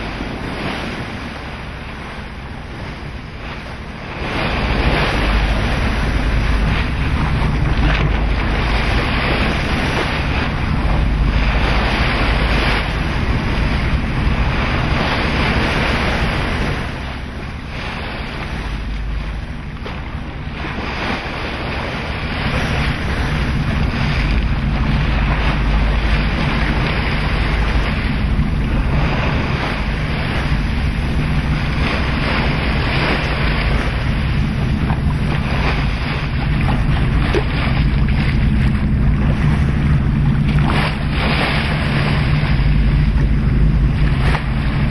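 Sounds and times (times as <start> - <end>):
boat engine hum: 0.0 - 44.9
sea wash: 0.0 - 44.9
wind buffeting microphone: 0.0 - 44.9.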